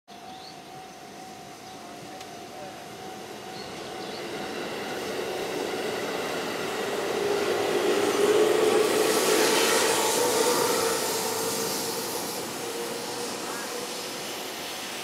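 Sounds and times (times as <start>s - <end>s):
freight train approaching: 0.1s - 15.0s.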